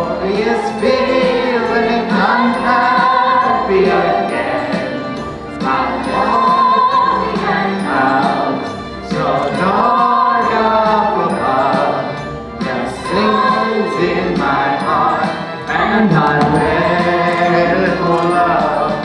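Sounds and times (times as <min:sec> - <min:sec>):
group of voices singing: 0:00.0 - 0:19.0
musical accompaniment: 0:00.0 - 0:19.0.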